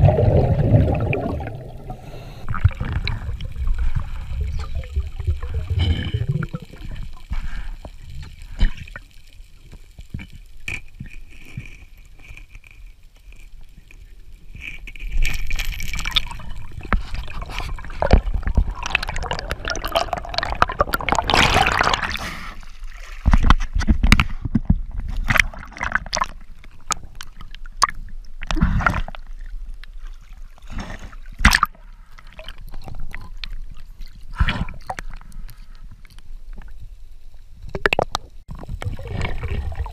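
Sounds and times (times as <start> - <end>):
underwater gurgling and bubbles: 0.0 - 39.9.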